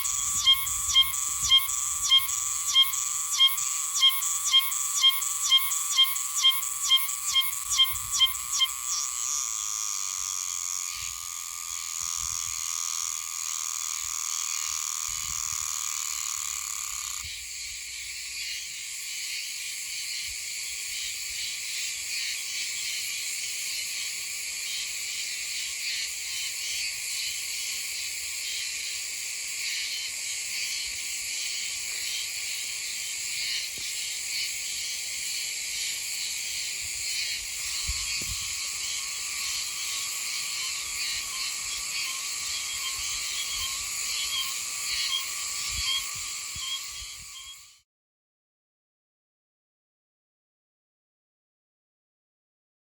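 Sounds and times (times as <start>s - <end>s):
cicada buzzing: 0.0s - 47.8s.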